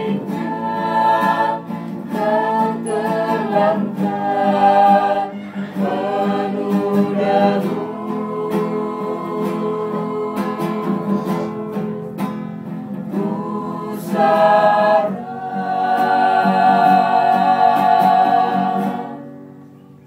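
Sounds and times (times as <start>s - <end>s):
group singing in harmony: 0.0s - 19.4s
acoustic guitar strumming: 0.0s - 20.0s.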